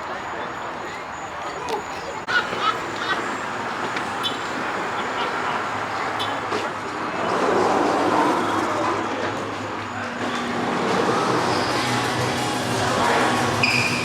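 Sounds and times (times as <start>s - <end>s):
road traffic noise: 0.0s - 14.0s
vehicle passing: 2.3s - 14.0s.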